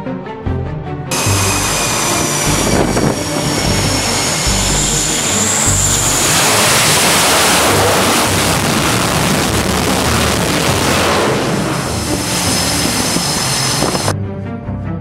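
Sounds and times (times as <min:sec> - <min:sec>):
jet engine roar: 0:01.1 - 0:14.2.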